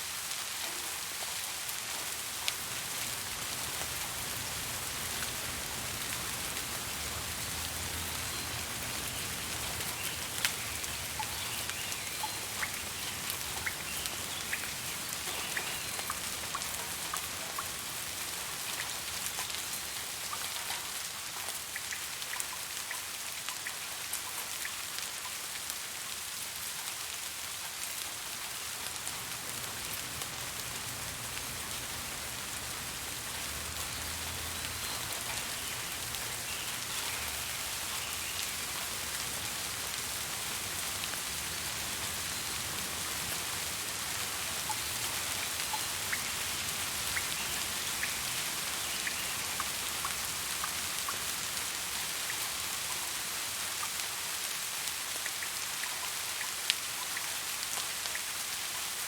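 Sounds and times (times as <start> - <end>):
steady rainfall hiss: 0.0 - 59.0
raindrops ticking on hard surface: 0.3 - 26.1, 28.7 - 59.0.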